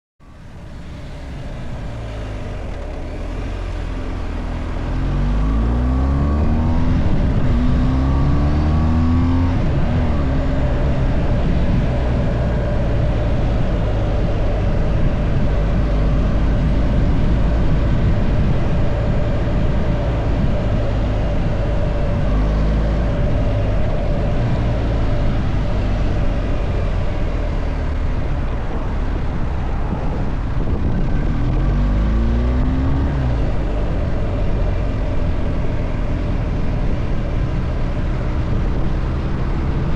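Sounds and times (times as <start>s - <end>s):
car engine accelerating: 0.2s - 39.9s
road noise: 0.2s - 39.9s.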